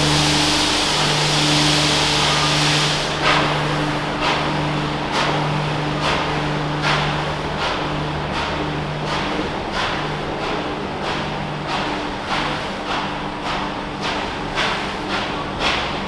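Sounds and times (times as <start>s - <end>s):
train engine drone: 0.0s - 14.5s.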